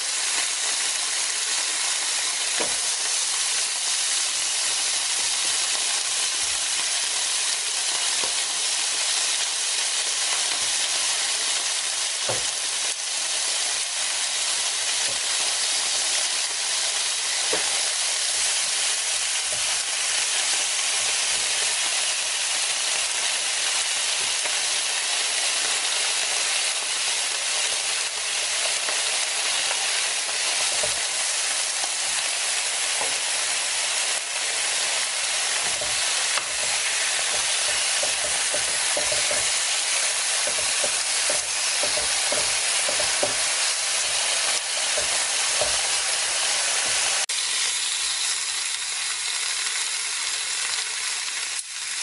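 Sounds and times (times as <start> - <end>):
meat sizzling on a grill plate: 0.0 - 52.0.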